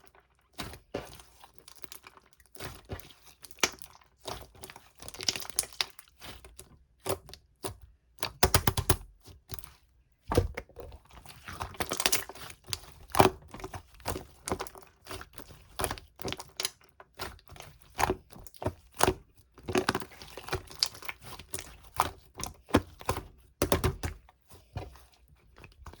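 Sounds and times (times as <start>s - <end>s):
slime squished by hand: 0.5s - 26.0s.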